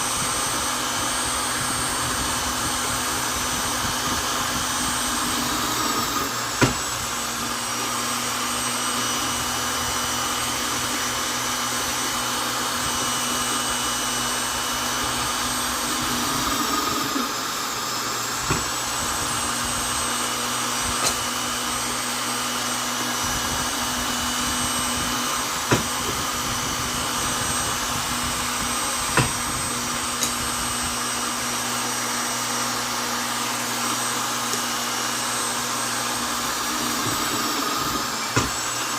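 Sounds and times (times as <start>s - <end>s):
electric drill whining: 0.0s - 38.9s.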